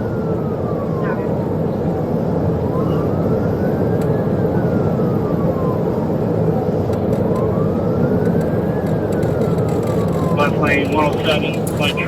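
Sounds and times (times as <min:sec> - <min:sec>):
car engine and road noise: 0:00.0 - 0:12.0
police siren wailing: 0:00.0 - 0:12.0.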